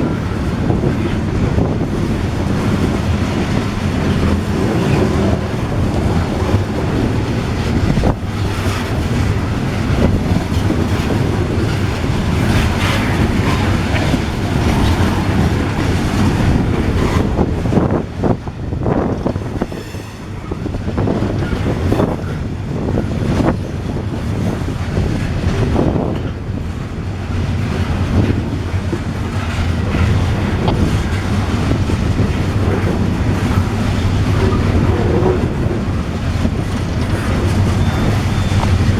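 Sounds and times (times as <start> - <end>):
freight train rolling past: 0.0 - 38.9
wheels clacking over rail joints: 0.0 - 38.9.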